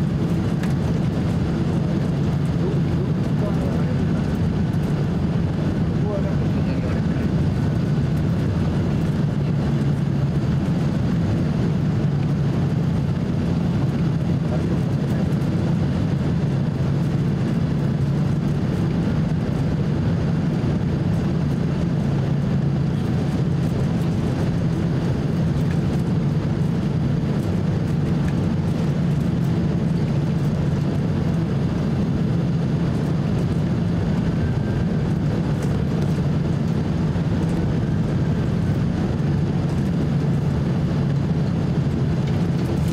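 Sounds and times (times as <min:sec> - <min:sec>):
airplane cabin roar: 0:00.0 - 0:42.9.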